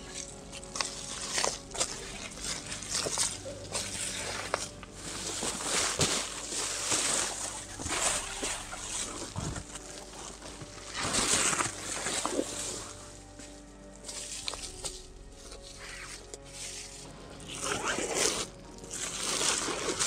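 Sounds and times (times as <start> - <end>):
nylon and foil rustling: 0.0 - 20.0.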